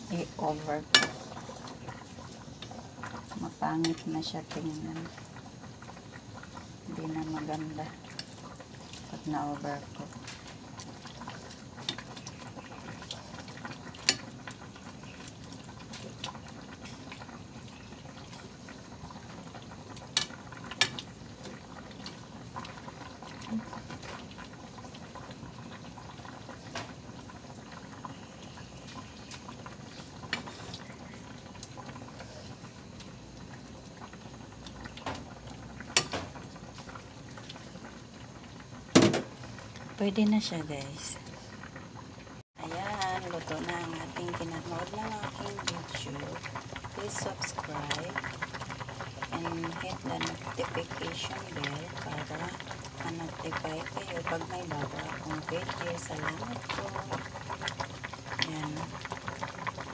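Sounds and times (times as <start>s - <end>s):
stew bubbling in a pot: 0.0s - 59.9s.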